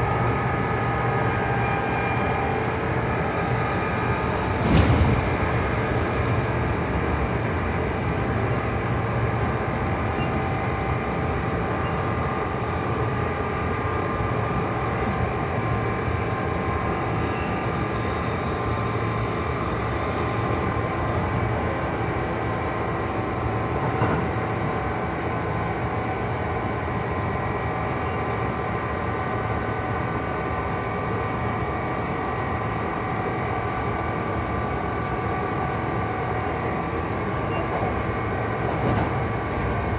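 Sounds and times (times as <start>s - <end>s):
rumble of train wheels: 0.0s - 39.9s.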